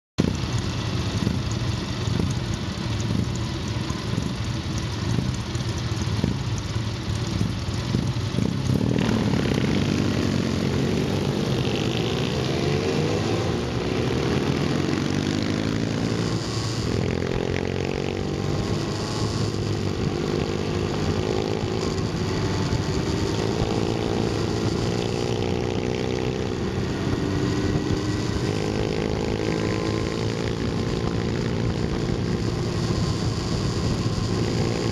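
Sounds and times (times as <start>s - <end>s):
motorcycle engines idling and accelerating: 0.2s - 34.9s.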